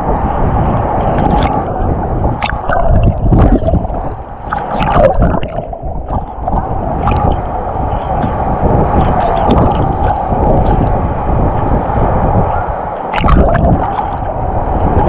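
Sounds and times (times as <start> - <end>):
sea water splashing: 0.0 - 15.0.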